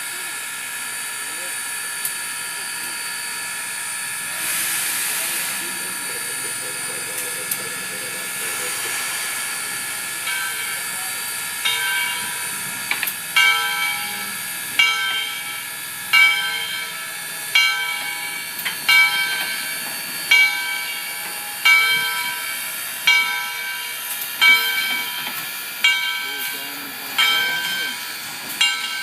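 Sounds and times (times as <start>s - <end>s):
steam hissing: 2.5s - 29.0s
locomotive bell ringing: 5.3s - 29.0s.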